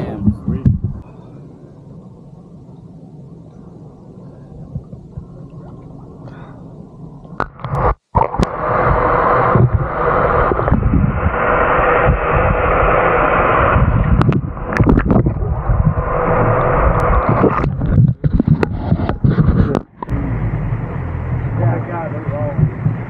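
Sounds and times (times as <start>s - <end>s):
muffled water rushing underwater: 0.0s - 23.0s
steady hum: 0.0s - 23.0s.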